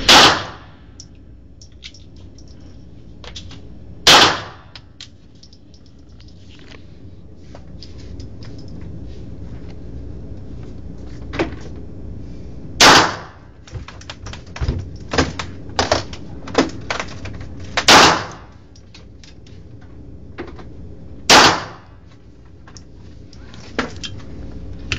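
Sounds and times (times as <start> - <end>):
steady low rumble: 0.0 - 24.9.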